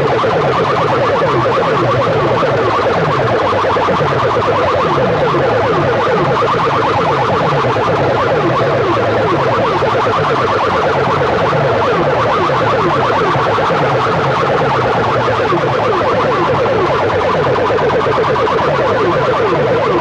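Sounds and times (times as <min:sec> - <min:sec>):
loud siren-like sound system sweeps: 0:00.0 - 0:20.0.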